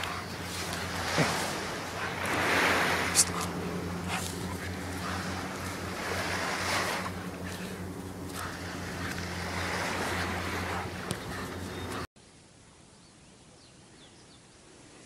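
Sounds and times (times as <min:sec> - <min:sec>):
low steady hum: 0:00.0 - 0:12.1
wind and surf hiss: 0:00.0 - 0:15.0.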